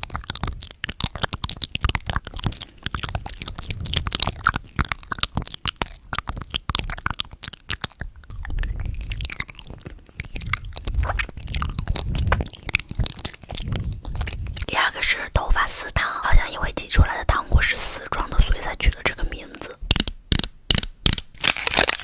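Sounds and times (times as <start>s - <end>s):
chewing and crunching candy: 0.0s - 22.0s
wet mouth clicks: 0.0s - 22.0s.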